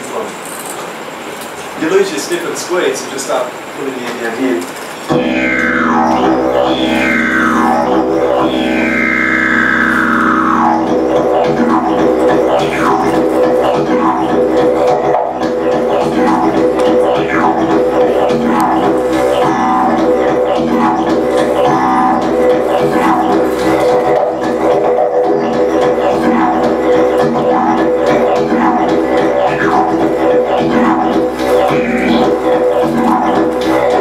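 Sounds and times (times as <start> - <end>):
didgeridoo drone: 5.0 - 34.0.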